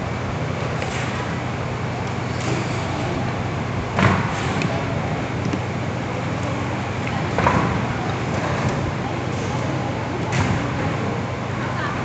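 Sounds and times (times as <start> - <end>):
packing machinery humming: 0.0 - 12.0.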